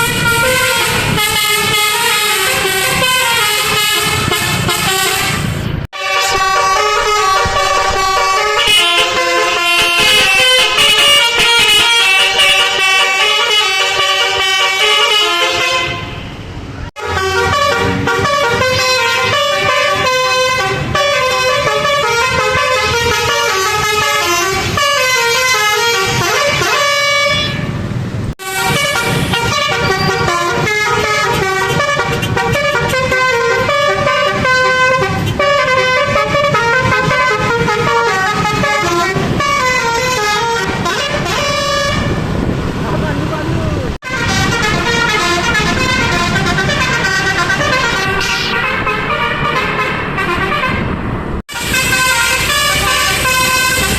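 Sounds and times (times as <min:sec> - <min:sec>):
musical air horn playing tune: 0:00.0 - 0:16.3, 0:17.0 - 0:27.8, 0:28.4 - 0:42.2, 0:44.0 - 0:53.9.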